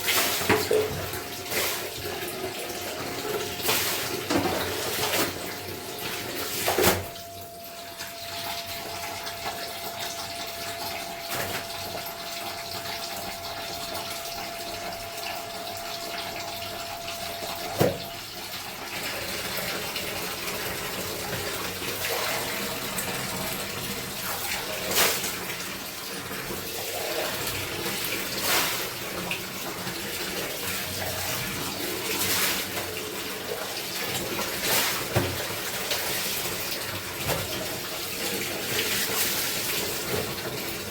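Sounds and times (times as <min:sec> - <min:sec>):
water running and splashing: 0:00.0 - 0:40.9.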